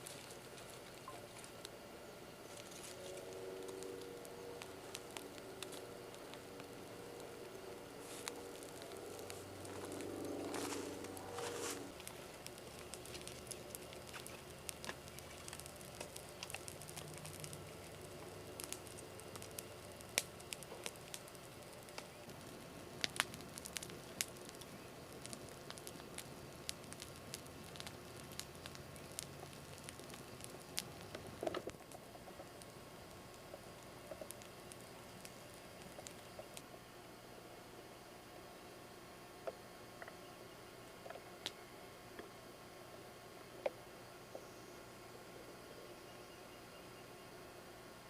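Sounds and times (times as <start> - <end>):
campfire crackling: 0.0 - 45.7
faint steady hiss: 0.0 - 48.0.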